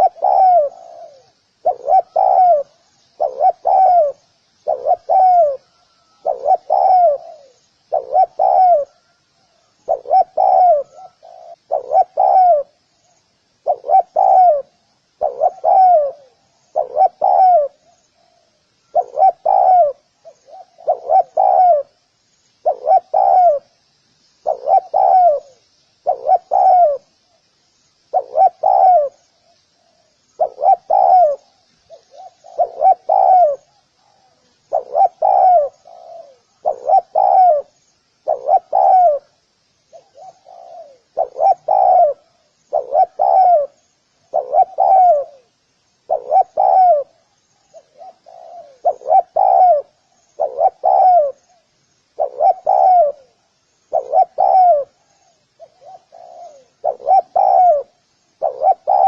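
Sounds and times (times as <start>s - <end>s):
dove cooing: 0.0s - 12.9s, 13.6s - 22.0s, 22.6s - 23.8s, 24.4s - 27.3s, 28.1s - 59.0s.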